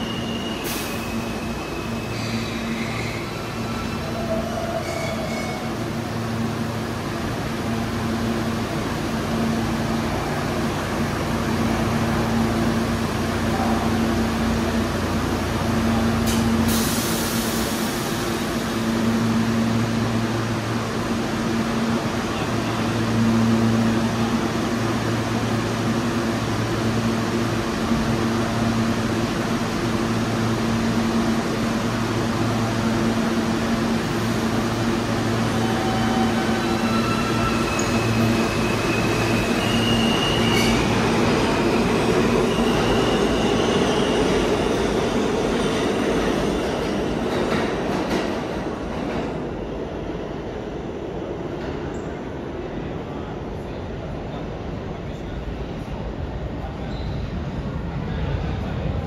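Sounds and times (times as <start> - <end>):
subway train rumble: 0.0 - 59.0.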